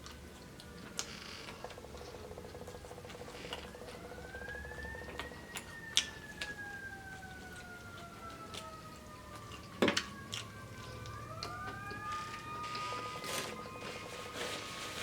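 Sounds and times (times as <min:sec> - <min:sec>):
faint siren wailing: 0:00.0 - 0:15.0.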